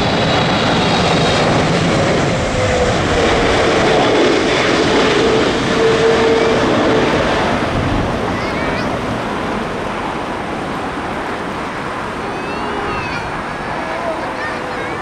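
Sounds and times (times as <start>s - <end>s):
jet airliner engine rush: 0.0s - 15.0s.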